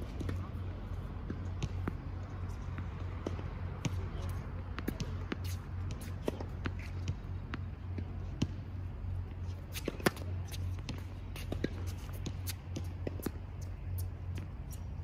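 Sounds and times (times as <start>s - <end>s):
tennis ball bouncing and struck: 0.0s - 8.7s, 9.4s - 14.8s
steady low hum: 0.0s - 15.0s.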